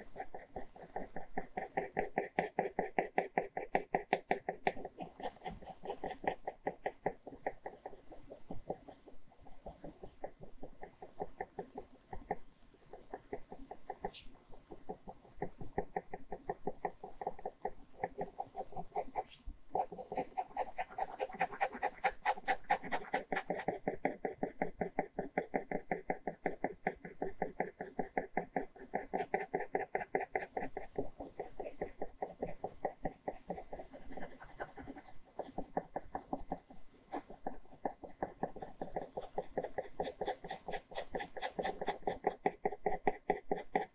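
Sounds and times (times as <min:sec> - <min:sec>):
pen scratching on paper: 0:00.0 - 0:43.9.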